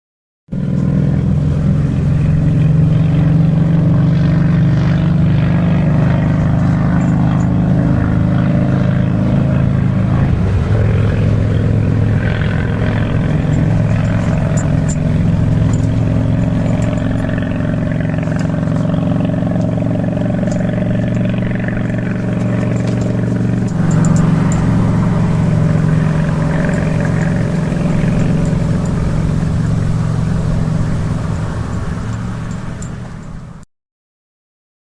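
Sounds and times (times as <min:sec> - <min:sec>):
engine running: 0:00.5 - 0:33.6.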